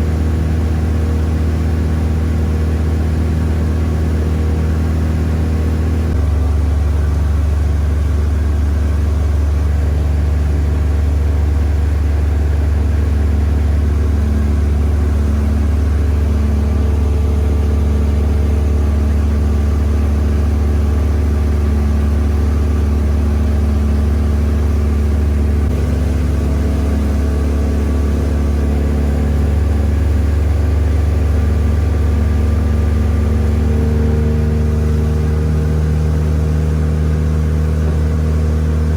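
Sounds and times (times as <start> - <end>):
boat motor droning: 0.0 - 38.9.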